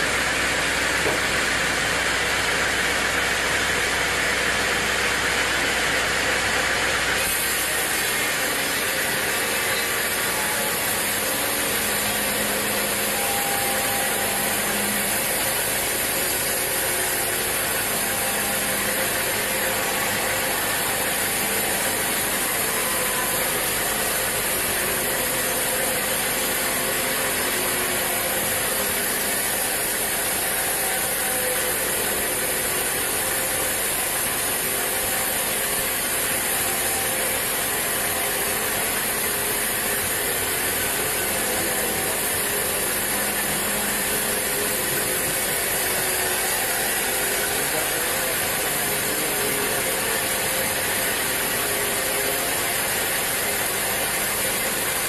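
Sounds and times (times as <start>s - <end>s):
sawmill machinery clattering: 0.0s - 55.0s.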